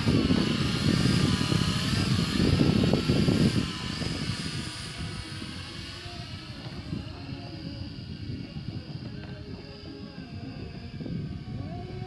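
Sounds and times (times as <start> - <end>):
aircraft propeller motor whine: 0.0 - 12.0
gusty low rumble: 0.0 - 12.0.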